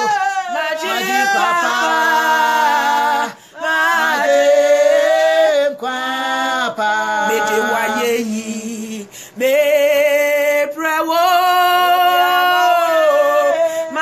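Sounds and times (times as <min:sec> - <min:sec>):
women singing a cappella: 0:00.0 - 0:14.0.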